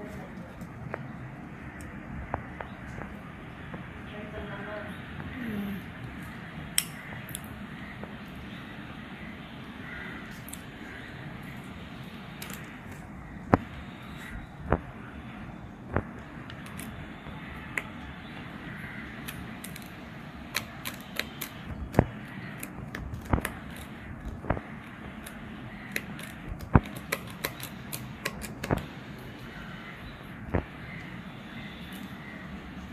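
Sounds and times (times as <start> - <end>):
steady low hiss: 0.0 - 32.9.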